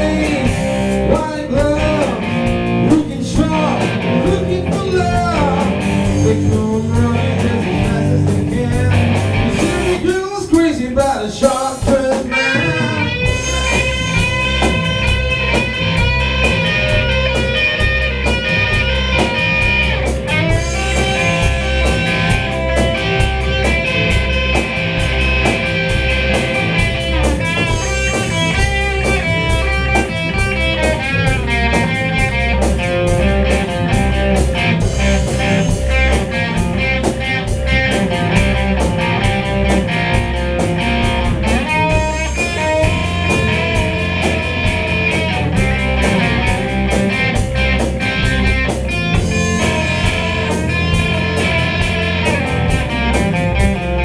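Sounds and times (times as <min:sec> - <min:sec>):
drum beat: 0:00.0 - 0:10.3, 0:11.4 - 0:54.0
bass guitar: 0:00.0 - 0:54.0
electric guitar lead: 0:00.0 - 0:54.0.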